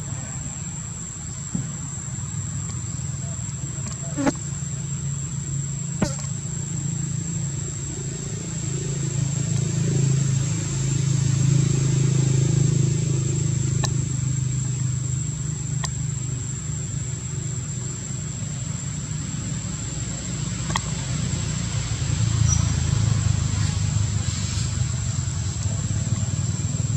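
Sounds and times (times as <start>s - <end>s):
vehicle engine rumbling: 0.0s - 26.9s.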